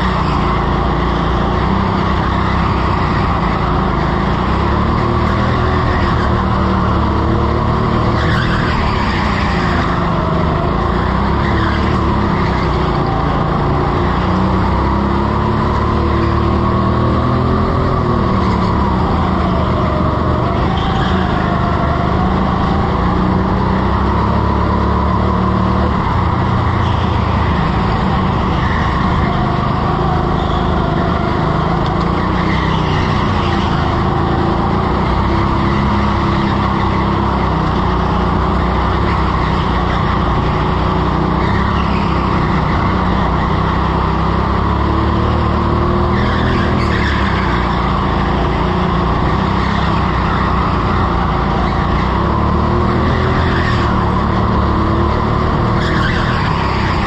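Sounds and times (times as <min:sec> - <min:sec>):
go-kart engine revving: 0:00.0 - 0:57.0
tyre squeals: 0:00.0 - 0:57.0.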